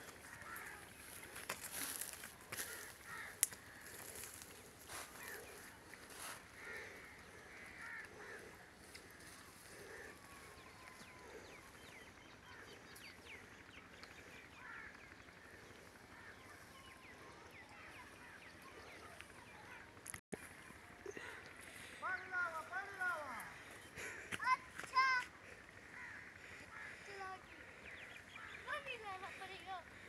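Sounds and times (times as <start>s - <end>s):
faint bird calls and chirps: 0.0s - 30.0s.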